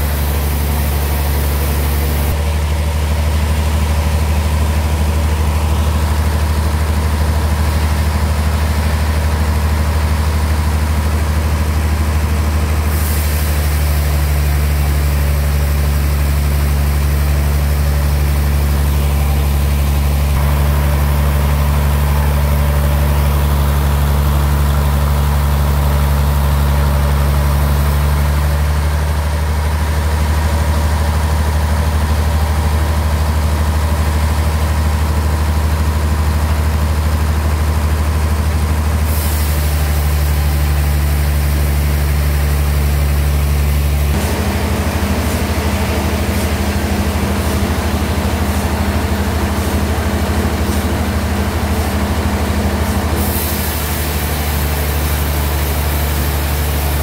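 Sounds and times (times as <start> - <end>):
bandsaw machinery humming: 0.0 - 28.9, 38.9 - 57.0.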